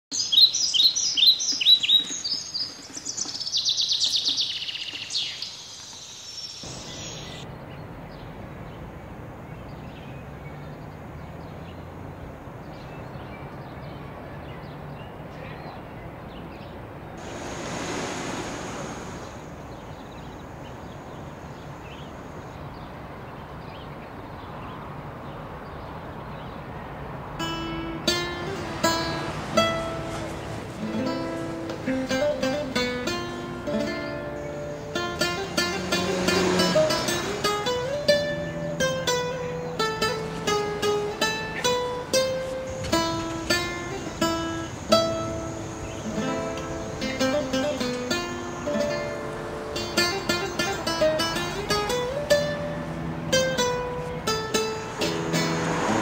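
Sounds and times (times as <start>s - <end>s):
songbird chirps and trill: 0.1s - 56.0s
street traffic hum: 0.1s - 56.0s
vehicle passing: 6.6s - 15.3s, 16.0s - 23.6s, 24.5s - 56.0s.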